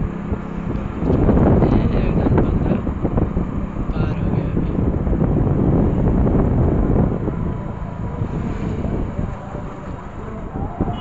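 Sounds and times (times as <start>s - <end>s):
motorcycle engine rumble: 0.0s - 11.0s
road noise: 0.0s - 11.0s
wind buffeting microphone: 0.0s - 11.0s.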